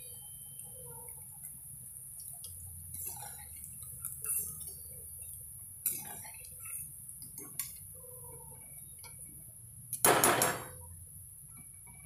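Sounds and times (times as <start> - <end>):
oil frying hiss: 0.0 - 12.0.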